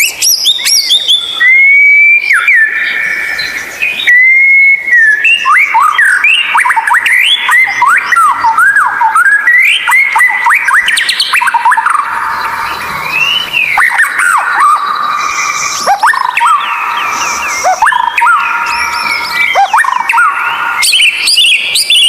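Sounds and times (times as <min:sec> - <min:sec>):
bird singing clear whistles: 0:00.0 - 0:22.0.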